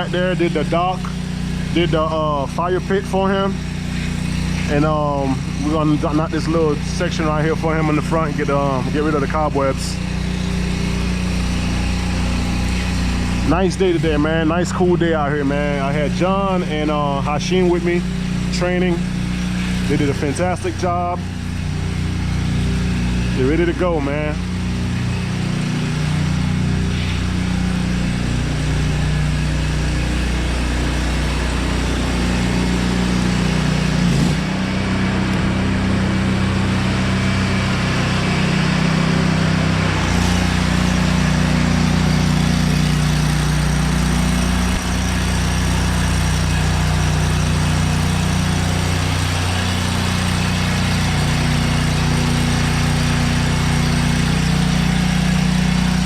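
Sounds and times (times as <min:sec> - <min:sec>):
pressure washer engine running: 0:00.0 - 0:56.0
high-pressure water spray hissing: 0:02.8 - 0:14.0, 0:19.0 - 0:23.7, 0:24.4 - 0:56.0.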